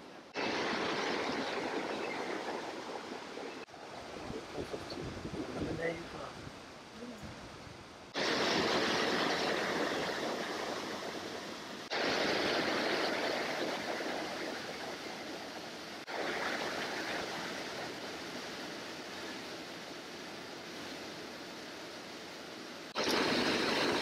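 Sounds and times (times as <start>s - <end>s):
fast-flowing creek rushing: 0.0s - 4.7s, 8.1s - 22.2s, 22.8s - 24.0s.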